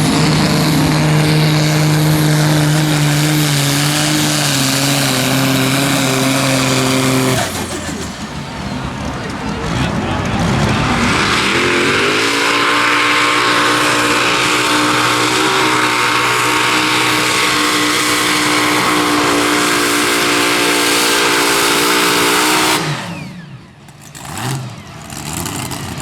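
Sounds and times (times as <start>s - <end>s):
tractor engine at full throttle: 0.0s - 26.0s.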